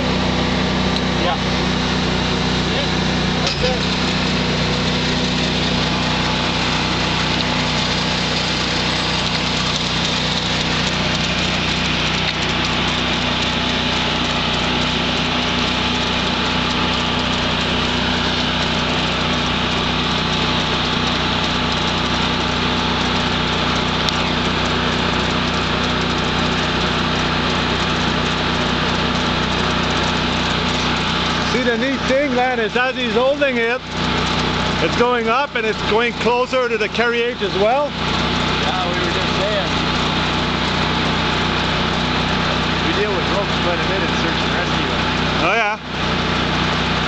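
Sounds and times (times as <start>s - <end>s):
generator engine droning: 0.0s - 47.0s.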